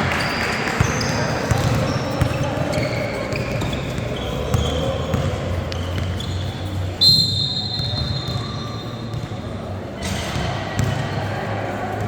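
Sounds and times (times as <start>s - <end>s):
ball bouncing: 0.0s - 11.3s
sneakers squeaking on court: 0.0s - 12.0s.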